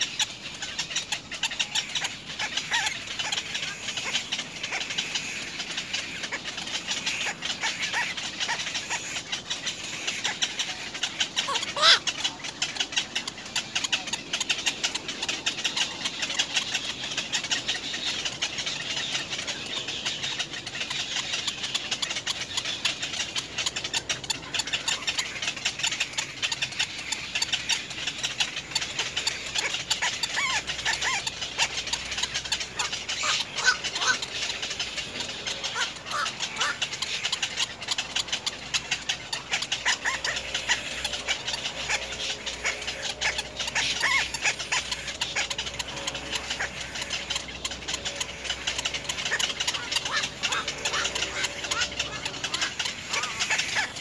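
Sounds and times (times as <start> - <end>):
short rising squeaky calls: 0.0 - 19.6, 20.2 - 54.0
heron chicks ticking chatter: 0.0 - 54.0.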